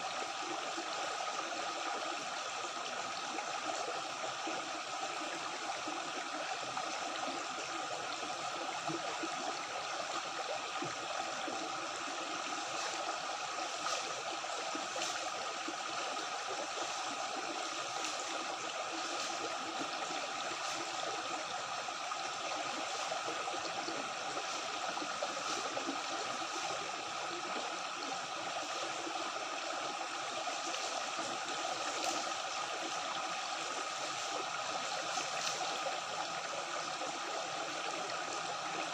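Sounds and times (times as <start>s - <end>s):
stream gurgling over rocks: 0.0s - 38.9s.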